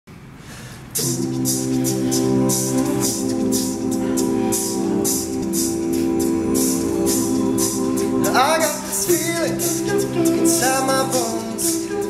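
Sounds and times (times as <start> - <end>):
male voices singing in harmony: 1.0 - 12.0
vocal percussion beat: 1.0 - 12.0.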